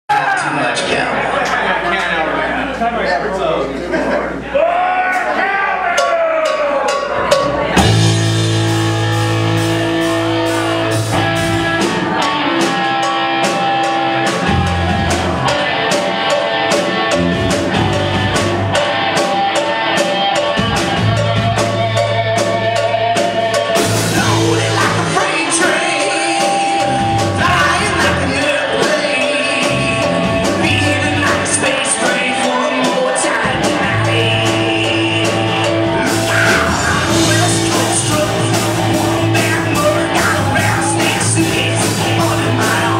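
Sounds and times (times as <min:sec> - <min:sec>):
drum kit: 0:04.4 - 0:42.9
electric guitar: 0:07.2 - 0:42.9.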